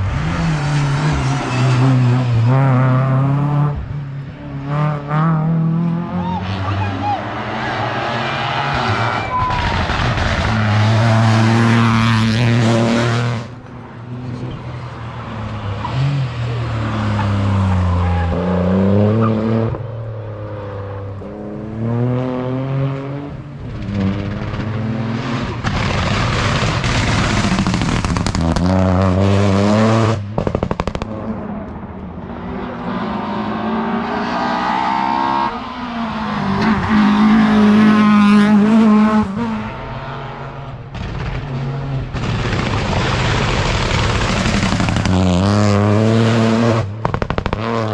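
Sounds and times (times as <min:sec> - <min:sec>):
rally car engines revving hard: 0:00.0 - 0:13.6, 0:15.4 - 0:47.9.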